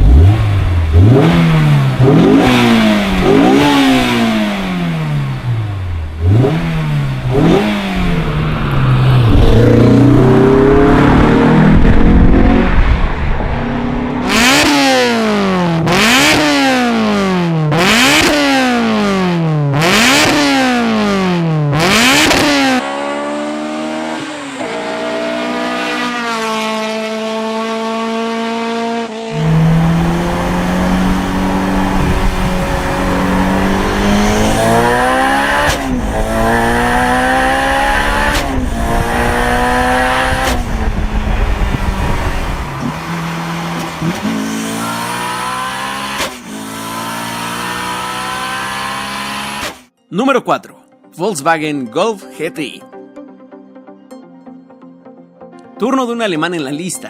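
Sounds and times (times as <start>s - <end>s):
car accelerating through gears: 0.0s - 49.8s
car engine revving hard: 0.0s - 49.9s.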